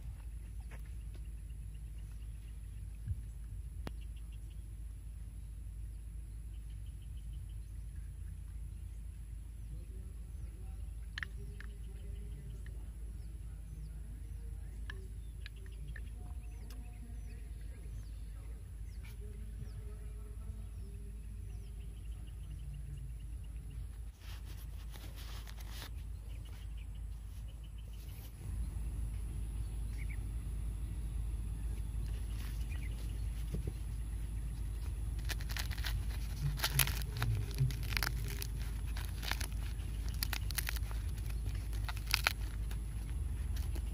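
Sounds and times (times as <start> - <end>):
faint bird chirps: 0.0 - 43.9
wind rumbling on microphone: 0.0 - 43.9.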